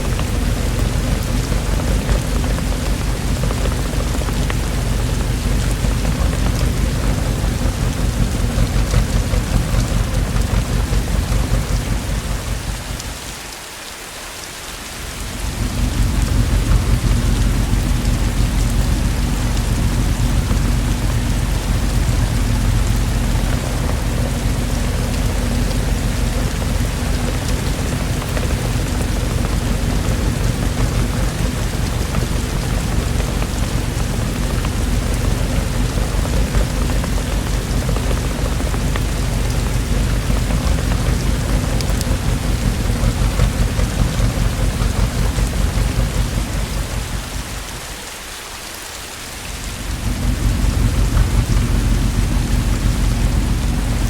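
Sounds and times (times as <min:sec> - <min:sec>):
continuous low rumble: 0:00.0 - 0:54.0
heavy rainfall: 0:00.0 - 0:54.0.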